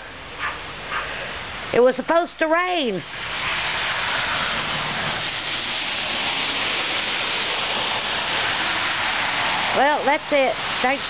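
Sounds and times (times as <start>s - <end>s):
snowstorm hiss: 0.0s - 11.0s.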